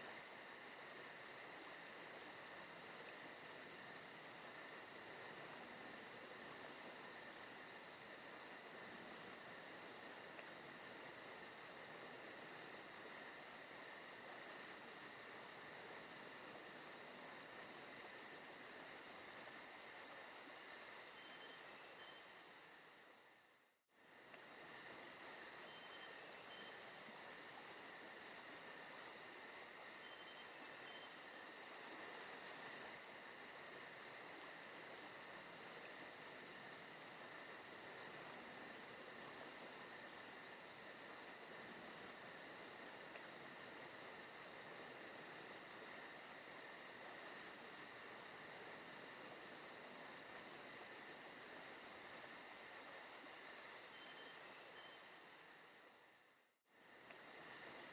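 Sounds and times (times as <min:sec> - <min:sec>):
crickets chirring: 0:00.1 - 0:57.9.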